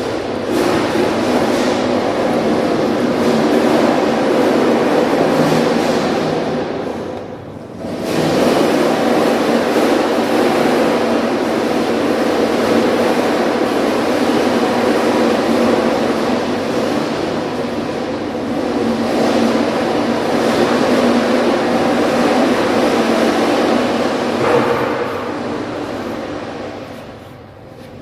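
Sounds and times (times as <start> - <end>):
loud steady noise: 0.0 - 28.0.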